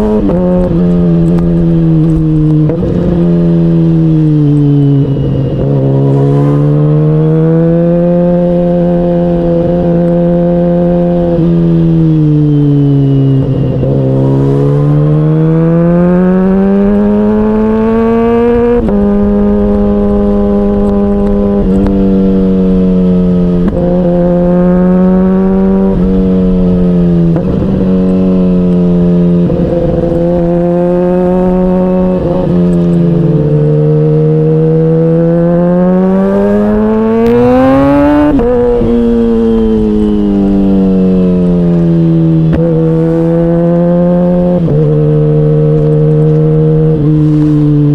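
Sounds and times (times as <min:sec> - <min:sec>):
motorcycle engine accelerating: 0:00.0 - 0:47.9
wind and road noise: 0:00.0 - 0:47.9.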